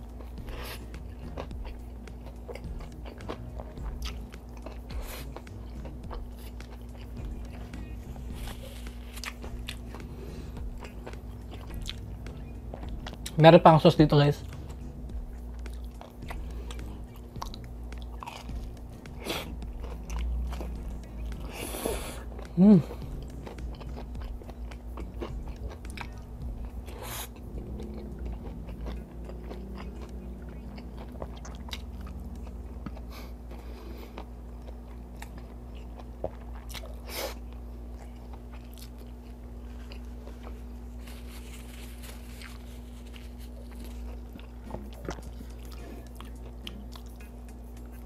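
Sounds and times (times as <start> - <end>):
chewing crispy food: 0.0 - 48.0
steady low hum: 0.0 - 48.0.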